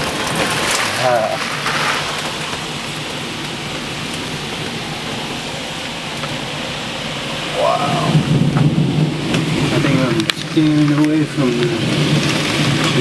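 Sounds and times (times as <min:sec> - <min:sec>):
heavy rain: 0:00.0 - 0:13.0
strong wind: 0:00.0 - 0:13.0.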